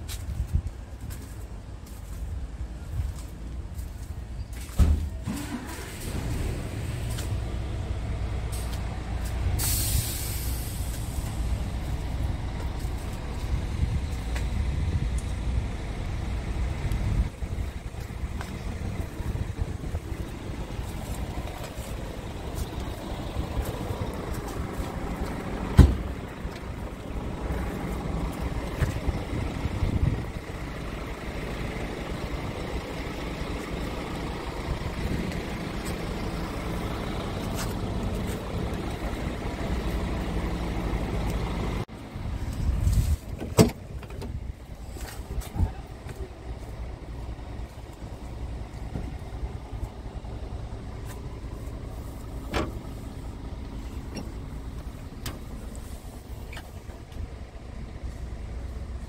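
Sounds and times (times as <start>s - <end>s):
diesel truck engine idling: 0.3s - 59.0s.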